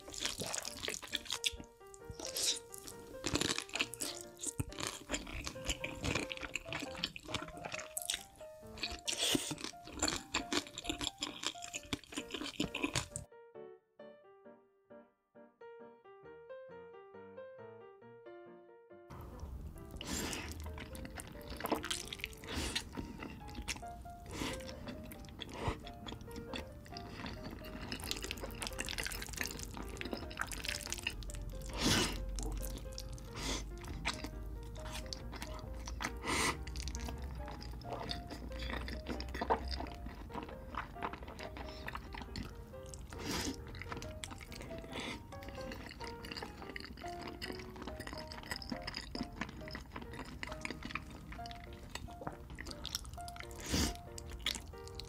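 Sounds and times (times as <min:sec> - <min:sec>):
person chewing noodles: 0:00.0 - 0:13.3, 0:19.2 - 0:55.0
background music: 0:00.0 - 0:55.0.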